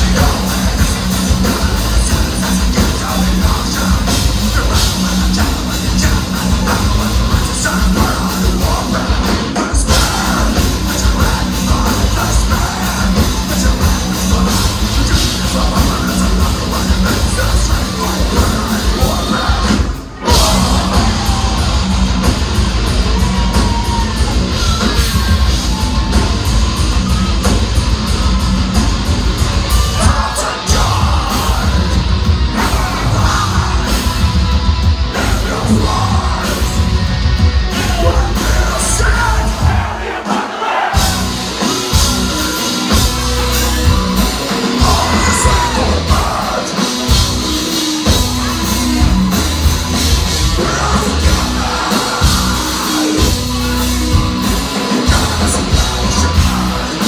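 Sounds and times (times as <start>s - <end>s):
shouted vocals: 0.0s - 27.8s, 29.6s - 57.0s
heavy metal band playing live: 0.0s - 57.0s.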